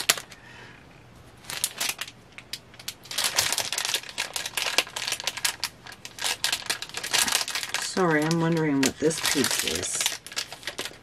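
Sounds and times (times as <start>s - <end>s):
plastic packaging crinkling: 0.0s - 0.4s, 1.4s - 11.0s.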